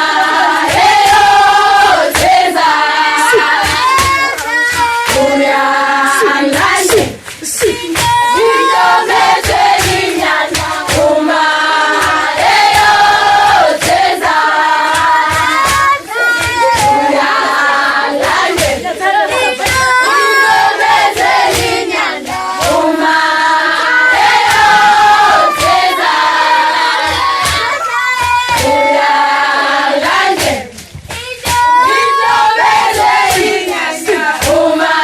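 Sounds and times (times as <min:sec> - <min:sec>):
hand clapping: 0:00.0 - 0:35.0
women singing in harmony: 0:00.0 - 0:35.0.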